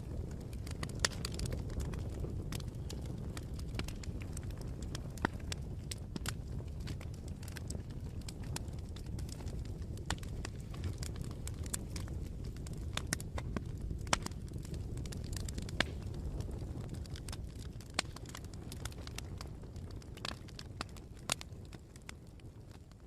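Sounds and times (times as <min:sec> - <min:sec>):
burning fire rumble: 0:00.0 - 0:23.0
fire pops and snaps: 0:00.0 - 0:23.0.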